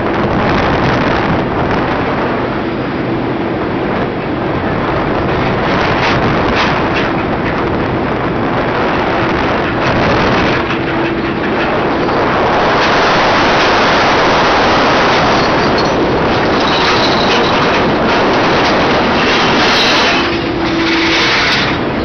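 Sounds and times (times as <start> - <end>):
water churning alongside hull: 0.0 - 22.0
wind on microphone: 0.0 - 22.0.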